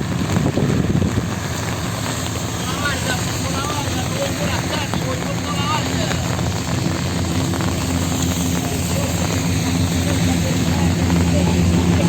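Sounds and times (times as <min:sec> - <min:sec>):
road and rain noise: 0:00.0 - 0:12.0
vehicle engine running: 0:00.0 - 0:12.0.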